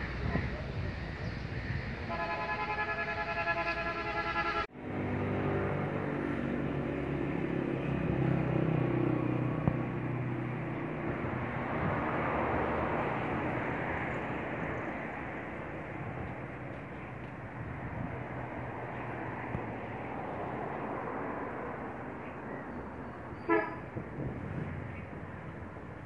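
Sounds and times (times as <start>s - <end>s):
traffic rushing noise: 0.0s - 26.0s.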